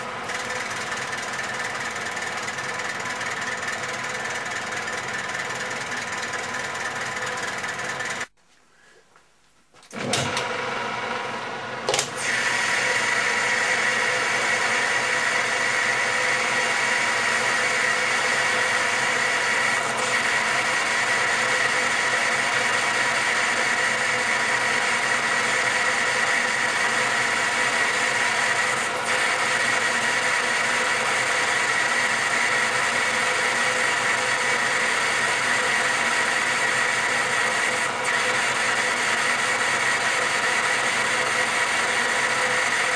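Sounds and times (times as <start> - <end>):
metal lathe running: 0.0 - 8.3, 10.0 - 42.9.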